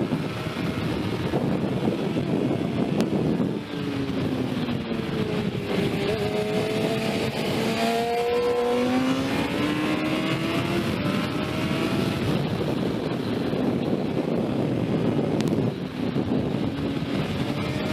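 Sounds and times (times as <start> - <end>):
motorcycle engine accelerating: 0.0 - 17.9
wind noise on microphone: 0.0 - 17.9.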